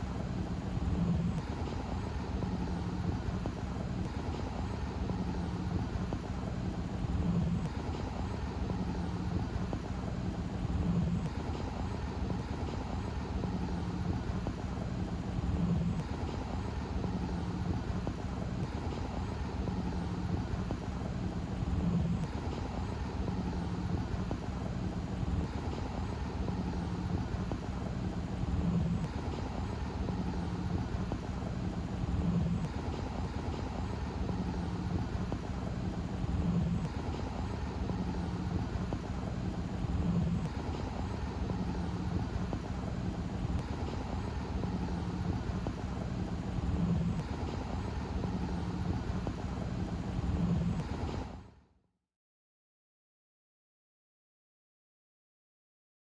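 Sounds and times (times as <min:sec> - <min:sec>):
low engine hum: 0:00.0 - 0:51.4.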